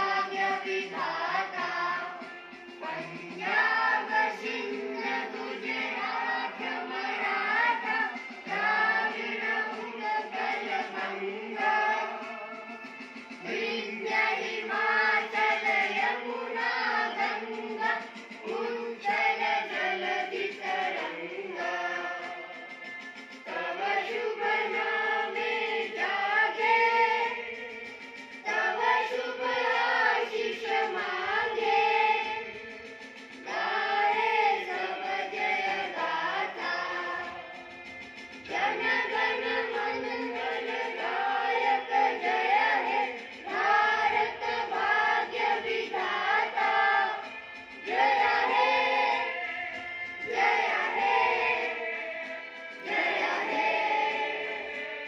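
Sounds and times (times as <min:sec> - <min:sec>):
group singing in unison: 0:00.0 - 0:55.0.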